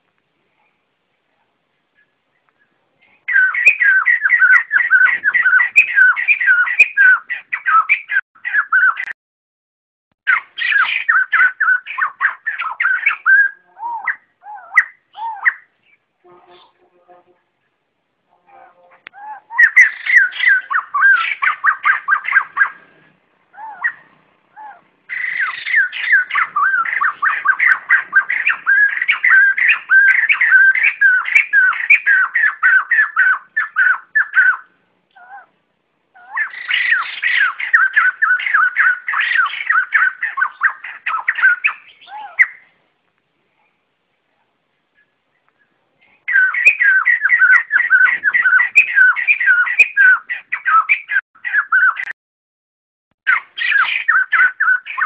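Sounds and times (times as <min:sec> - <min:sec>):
birds chattering: 0:01.9 - 0:09.2, 0:10.3 - 0:17.0, 0:18.9 - 0:42.8, 0:44.9 - 0:52.2, 0:53.3 - 0:55.0.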